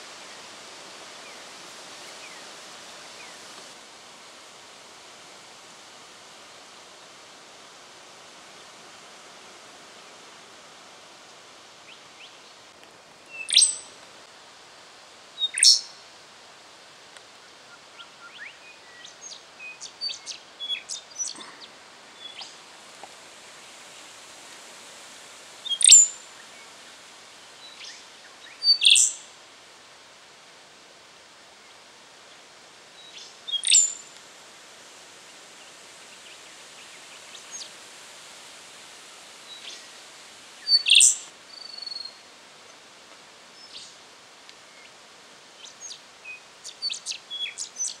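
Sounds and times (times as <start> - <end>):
steady background hiss: 0.0 - 48.0.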